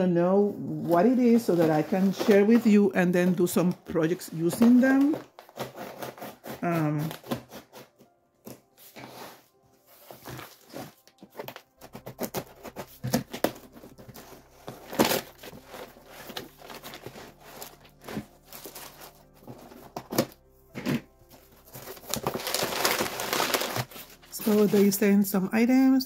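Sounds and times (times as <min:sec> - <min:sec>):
soft background music: 0:00.0 - 0:26.0
packing paper rustling: 0:00.6 - 0:25.3.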